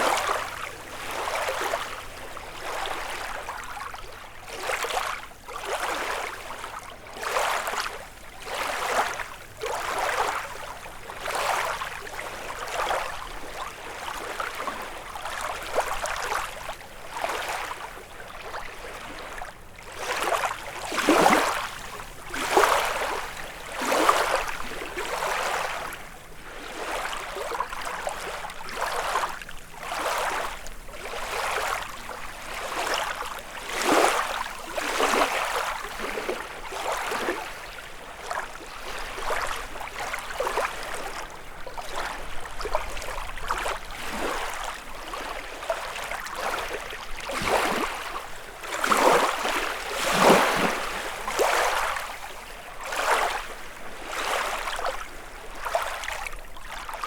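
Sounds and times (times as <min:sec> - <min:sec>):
waves lapping on shore: 0:00.0 - 0:57.0.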